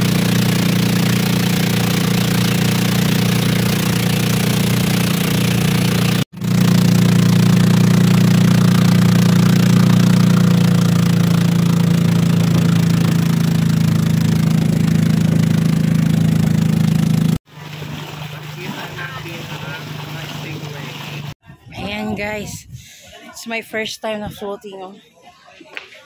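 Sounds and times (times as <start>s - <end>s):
boat engine droning: 0.0s - 21.4s.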